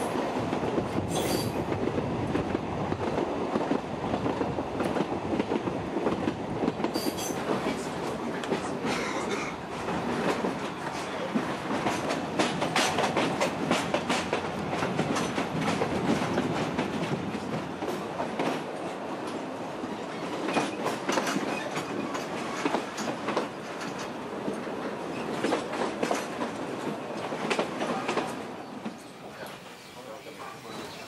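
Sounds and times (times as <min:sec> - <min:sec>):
train wheels clicking over rail joints: 0:00.0 - 0:19.5, 0:20.1 - 0:29.4
train rumble: 0:00.0 - 0:31.0.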